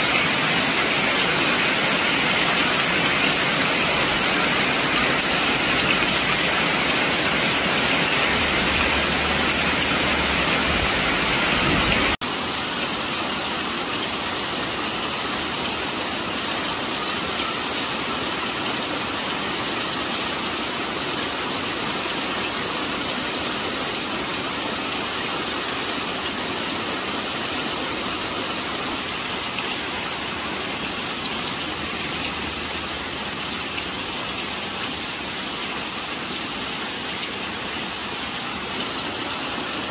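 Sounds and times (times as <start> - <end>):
heavy rain splashing into puddle: 0.0 - 39.9.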